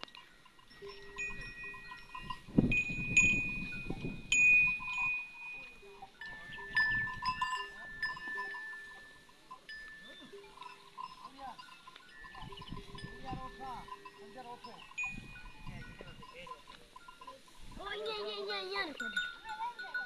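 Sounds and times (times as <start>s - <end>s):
cattle neck bells ringing: 0.0s - 20.0s.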